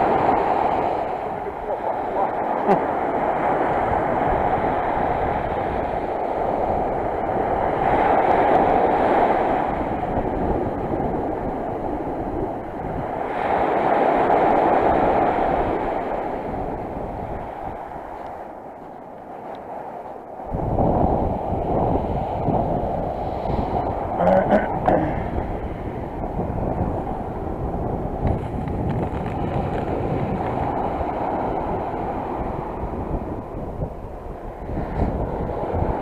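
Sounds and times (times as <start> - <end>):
waves washing onto shore: 0.0 - 36.0.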